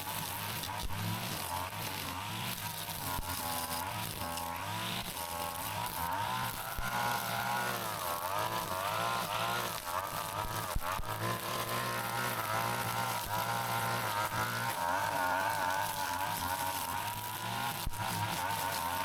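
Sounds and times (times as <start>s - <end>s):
brush cutter engine running: 0.0s - 19.0s.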